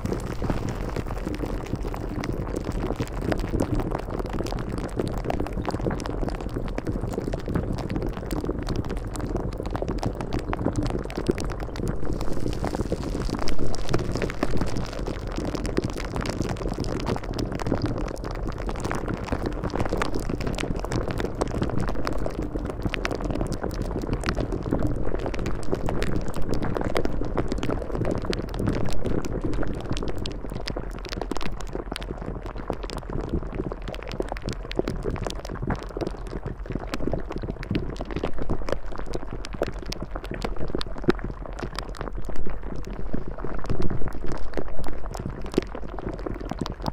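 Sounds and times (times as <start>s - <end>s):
bubbling with crackles: 0.0s - 46.9s.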